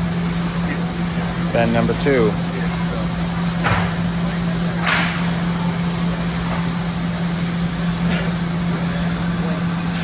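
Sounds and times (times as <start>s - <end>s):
hydraulic unit humming: 0.0s - 10.0s.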